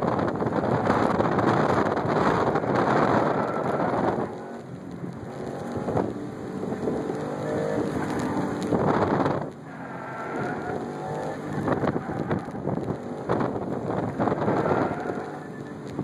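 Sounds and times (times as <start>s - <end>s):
car engine accelerating: 0.0s - 16.0s
road and wind noise: 0.0s - 16.0s.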